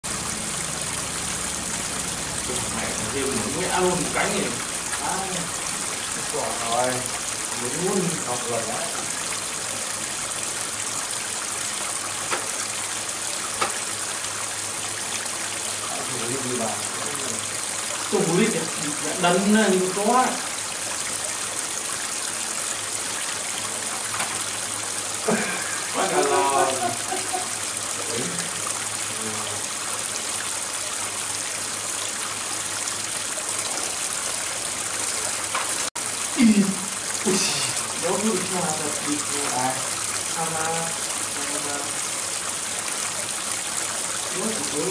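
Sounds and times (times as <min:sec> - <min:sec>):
water pouring into pond: 0:00.0 - 0:44.9.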